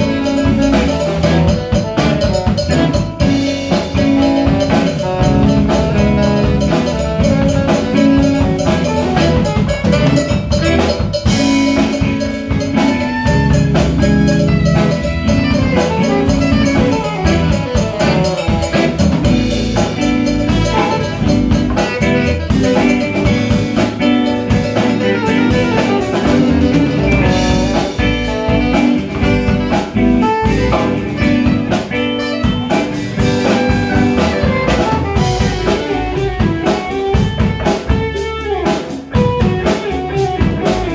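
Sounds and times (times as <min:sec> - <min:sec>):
saxophones: 0:00.0 - 0:36.6
hand percussion: 0:00.0 - 0:38.2
bass guitar: 0:00.0 - 0:40.9
drum kit: 0:00.0 - 0:40.9
electric guitar: 0:00.0 - 0:40.9.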